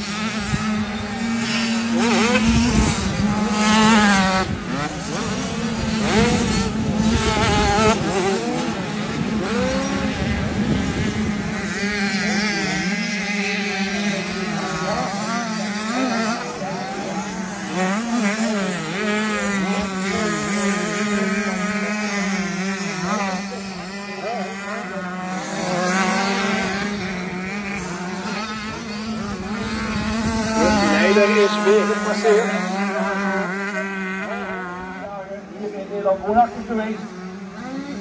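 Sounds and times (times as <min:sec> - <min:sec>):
motocross bike engines revving: 0:00.0 - 0:38.0
steady engine drone: 0:00.0 - 0:38.0.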